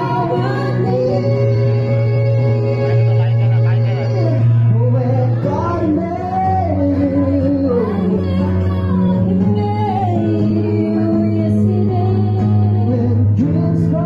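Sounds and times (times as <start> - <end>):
acoustic guitar: 0.0 - 14.0
electric guitar: 0.0 - 14.0
keyboard: 0.0 - 14.0
man singing: 0.0 - 14.0
woman singing: 0.0 - 14.0.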